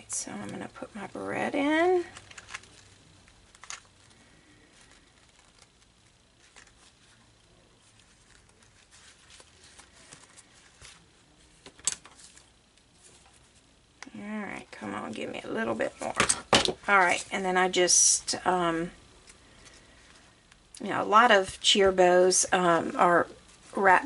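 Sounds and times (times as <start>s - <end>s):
ribbon rustling: 0.4s - 13.8s, 14.6s - 17.6s, 18.8s - 24.0s.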